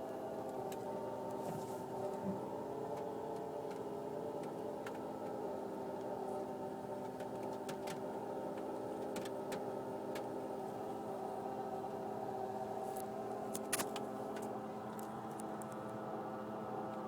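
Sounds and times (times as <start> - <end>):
engine whirring: 0.0 - 17.0.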